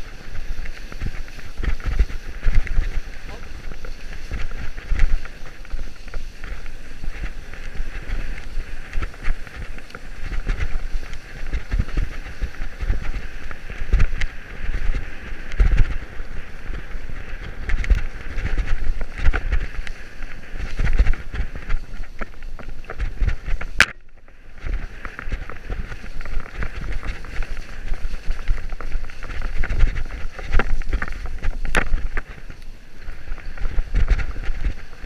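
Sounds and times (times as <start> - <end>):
bike rattling over bumps: 0.0 - 35.0
wind buffeting: 0.0 - 35.0.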